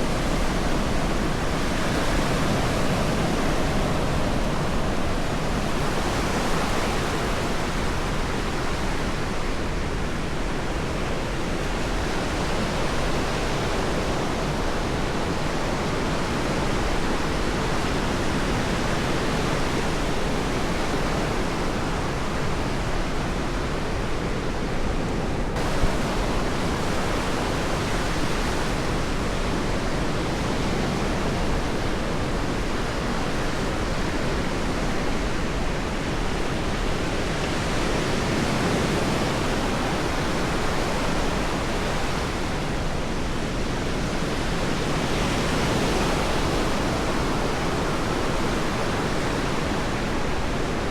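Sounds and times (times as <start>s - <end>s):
ocean surf washing onto beach: 0.0s - 50.9s.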